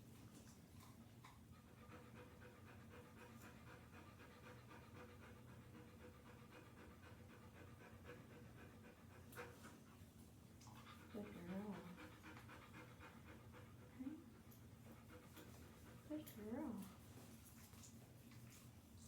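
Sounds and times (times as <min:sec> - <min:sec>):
dog panting: 0:00.4 - 0:18.9.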